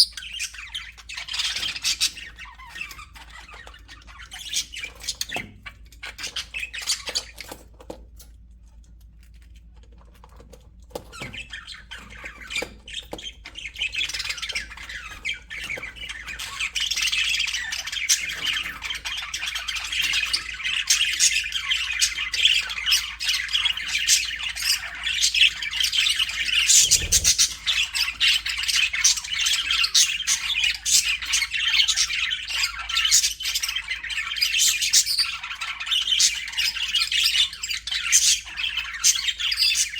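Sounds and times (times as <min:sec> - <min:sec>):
budgerigars chattering and squawking: 0:00.0 - 0:07.8, 0:11.0 - 0:39.9.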